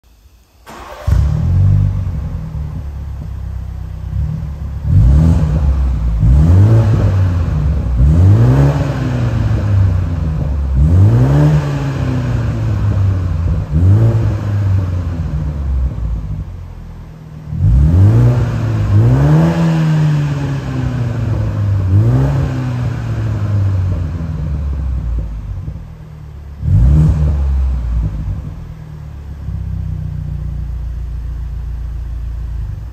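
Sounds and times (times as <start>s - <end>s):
car engine revving: 0.6s - 32.9s.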